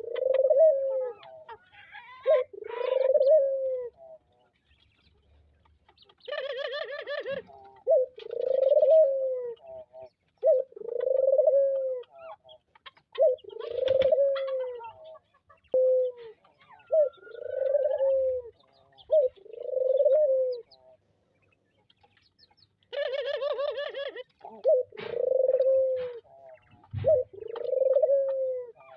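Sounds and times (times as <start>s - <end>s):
dove cooing: 0.0s - 4.3s, 6.2s - 21.0s, 22.9s - 28.9s.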